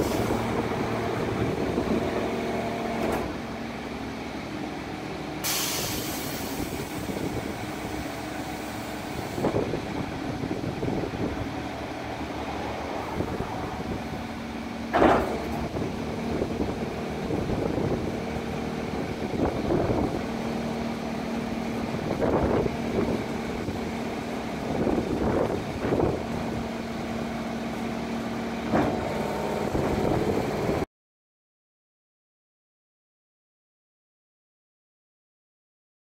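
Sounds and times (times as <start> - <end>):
hydraulic hum: 0.0 - 30.8
truck engine idling: 0.0 - 30.8.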